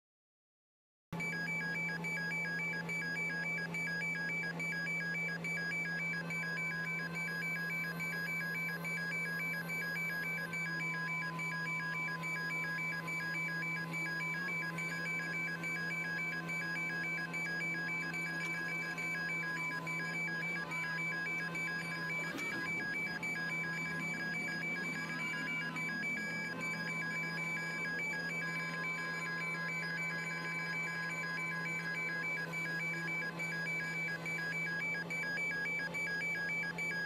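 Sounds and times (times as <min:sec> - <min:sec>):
electronic warning beeper pulsing: 0:01.2 - 0:37.0.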